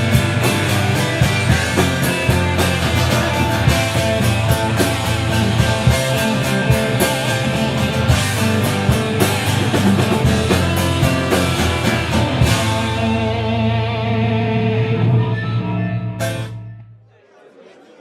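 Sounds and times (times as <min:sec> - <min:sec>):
rock band playing: 0:00.0 - 0:16.8.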